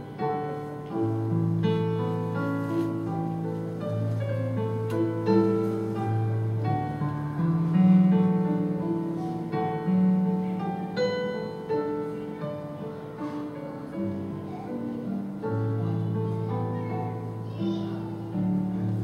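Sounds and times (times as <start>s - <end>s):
piano playing a slow hymn: 0.0s - 19.0s.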